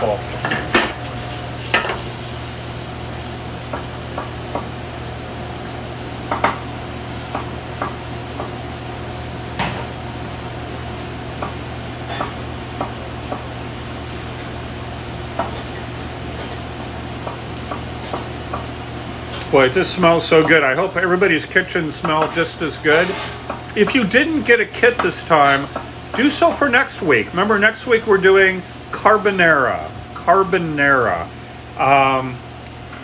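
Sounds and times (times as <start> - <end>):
kitchen hiss: 0.0 - 33.0.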